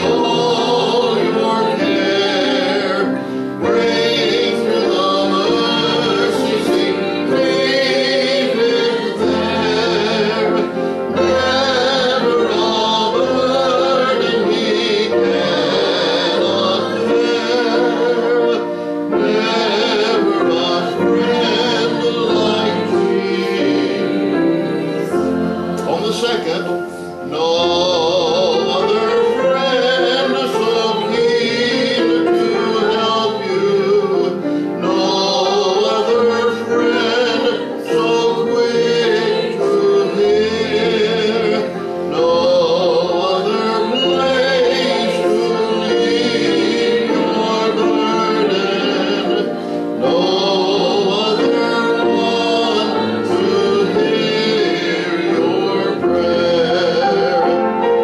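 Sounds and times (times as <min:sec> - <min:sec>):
congregation singing a hymn: 0:00.0 - 0:58.0
piano accompaniment: 0:00.0 - 0:58.0.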